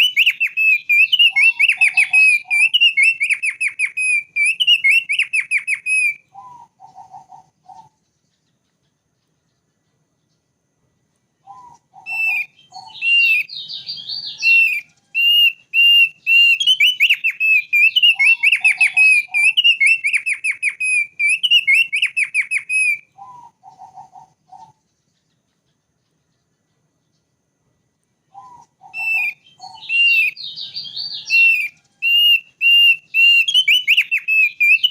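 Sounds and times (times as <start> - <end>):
bird singing whistled trills: 0.0 - 10.5, 11.4 - 27.4, 28.2 - 34.9.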